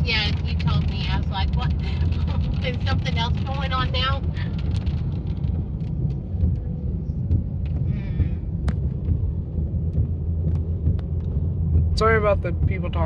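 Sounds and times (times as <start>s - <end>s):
rain ticks: 0.0s - 7.8s, 8.7s - 13.0s
car driving rumble: 0.0s - 13.0s.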